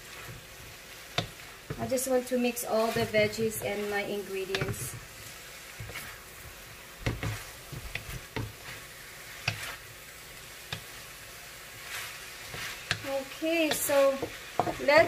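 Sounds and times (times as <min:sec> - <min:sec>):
stir-fry sizzling: 0:00.0 - 0:15.0.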